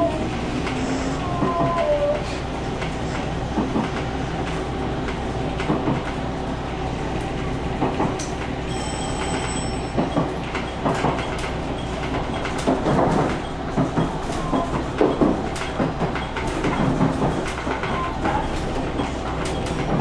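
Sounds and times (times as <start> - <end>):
wheels clacking over rail joints: 0.0 - 20.0.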